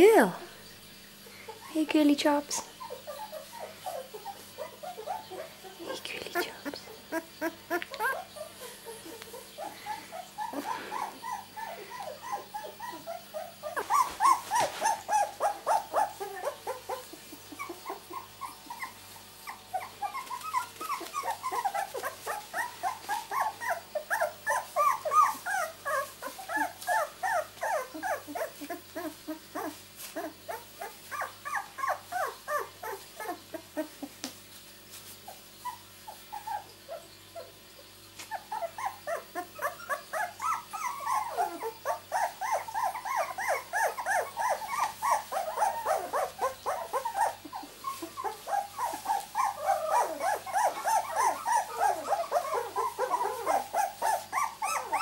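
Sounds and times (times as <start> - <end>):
puppies crying with high squeaks: 1.1 - 34.2, 35.2 - 55.0.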